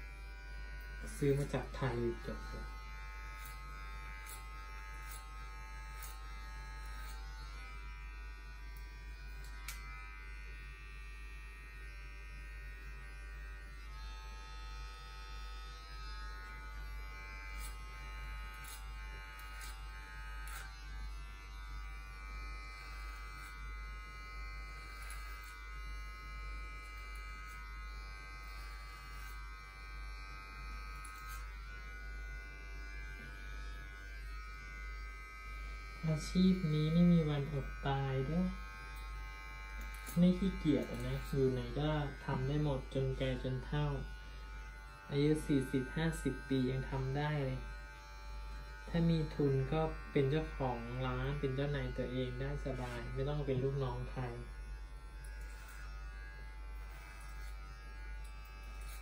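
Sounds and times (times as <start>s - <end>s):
electric hair clippers buzzing: 0.0s - 59.0s.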